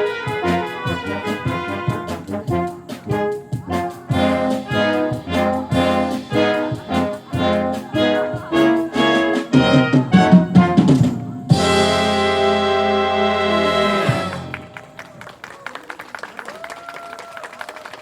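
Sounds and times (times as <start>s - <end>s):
brass rhythmic chords: 0.0s - 15.0s
wind orchestra playing: 0.0s - 15.3s.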